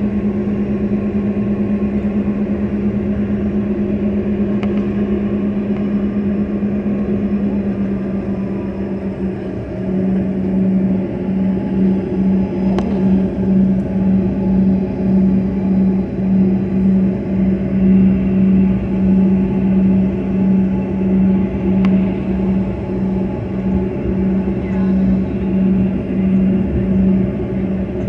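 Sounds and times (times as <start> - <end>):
jet engine hum inside cabin: 0.0 - 28.0.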